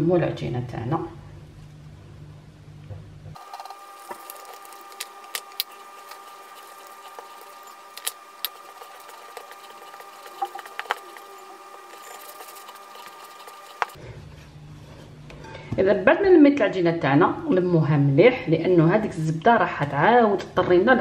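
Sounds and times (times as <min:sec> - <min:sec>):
faint steady hum: 0:00.0 - 0:19.5.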